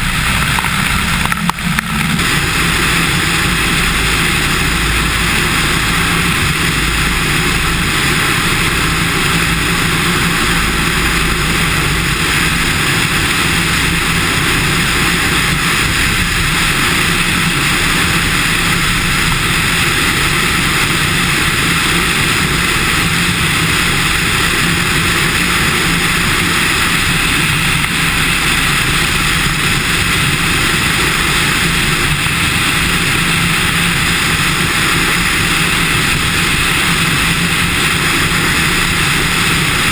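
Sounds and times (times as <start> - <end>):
airplane engine and propeller running: 0.0 - 39.9
wind rush on microphone: 0.0 - 39.9.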